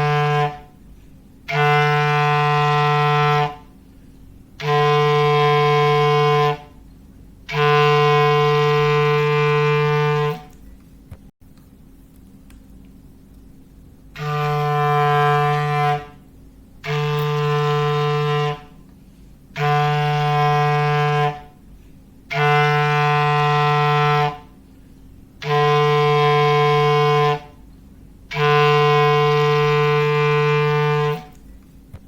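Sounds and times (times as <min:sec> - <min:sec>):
foghorn blasts: 0:00.0 - 0:10.6, 0:14.1 - 0:31.4.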